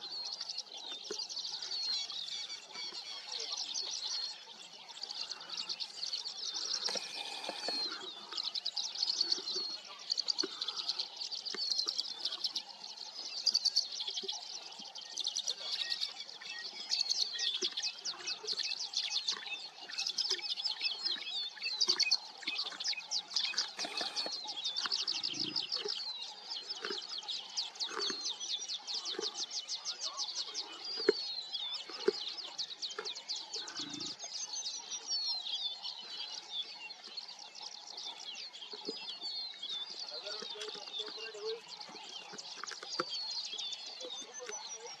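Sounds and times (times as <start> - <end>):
birds chirping and trilling: 0.0 - 45.0.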